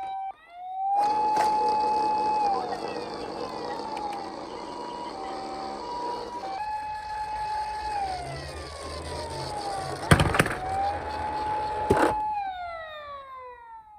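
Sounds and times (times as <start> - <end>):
police wail siren: 0.0 - 13.9.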